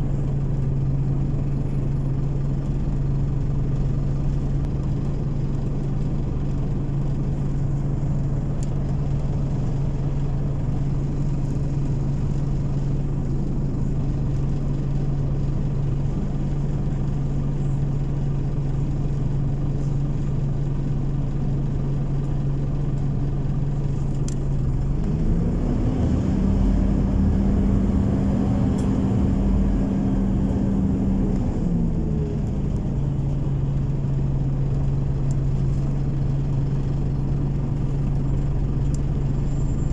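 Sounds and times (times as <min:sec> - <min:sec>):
bus engine idling and revving: 0:00.0 - 0:39.9.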